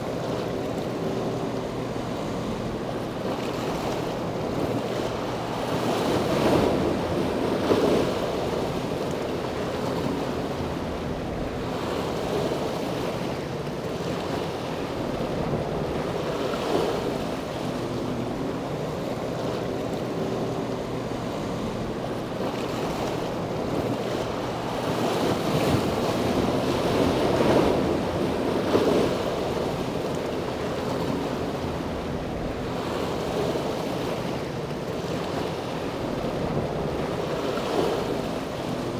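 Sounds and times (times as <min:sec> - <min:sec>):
boat engines humming: 0:00.0 - 0:38.9
wind buffeting microphone: 0:00.0 - 0:38.9.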